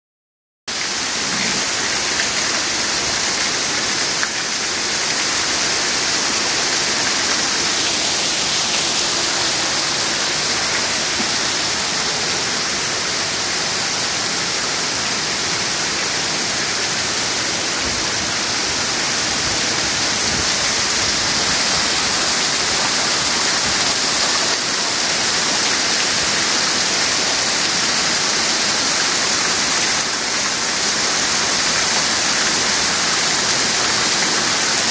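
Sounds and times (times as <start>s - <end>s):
heavy rain: 0.7s - 34.9s.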